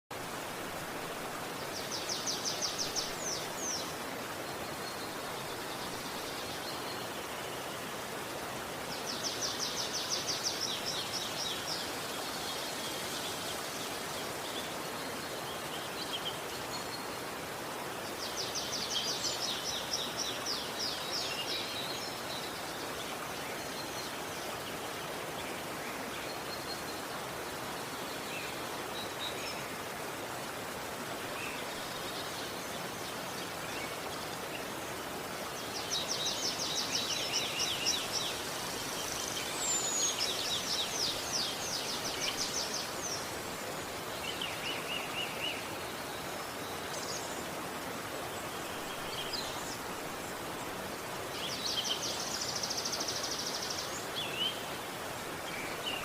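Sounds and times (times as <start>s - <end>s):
river water rushing: 0.2s - 56.0s.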